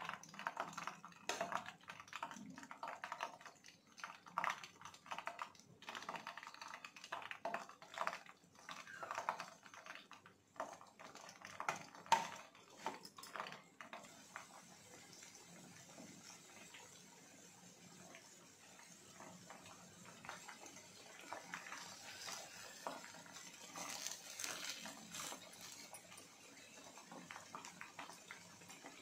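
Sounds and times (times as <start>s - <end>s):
food frying in hot oil: 0.0s - 29.0s.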